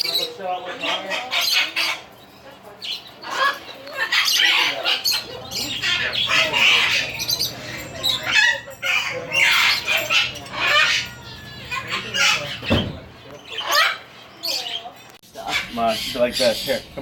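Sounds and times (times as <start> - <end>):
parrots squawking: 0.0 - 17.0.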